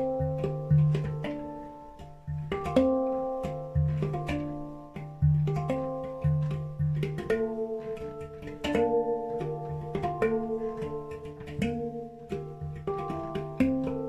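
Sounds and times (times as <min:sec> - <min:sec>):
handpan notes: 0:00.0 - 0:14.0.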